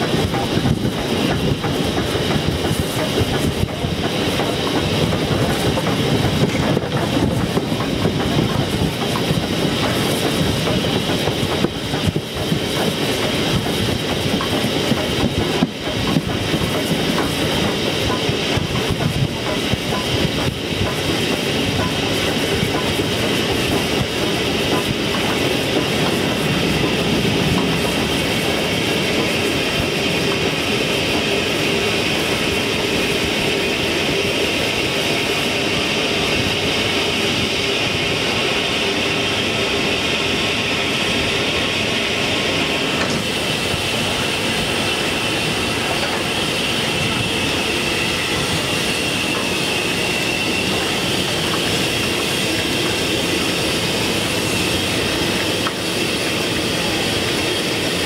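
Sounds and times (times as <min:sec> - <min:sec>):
train wheels clattering over rails: 0:00.0 - 0:58.0.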